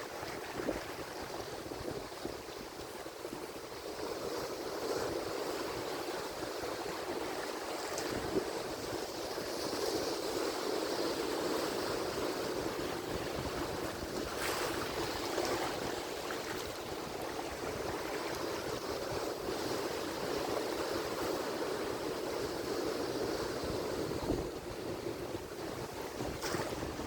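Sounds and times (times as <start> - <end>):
waves breaking on shore: 0.0 - 27.0
wind on microphone: 0.0 - 27.0.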